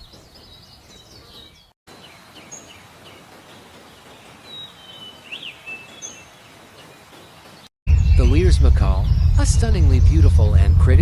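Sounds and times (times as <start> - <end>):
high bird chirps: 0.0 - 10.3.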